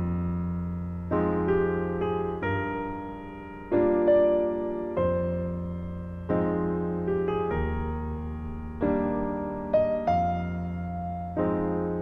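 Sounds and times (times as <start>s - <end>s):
slow solo piano music: 0.0s - 12.0s.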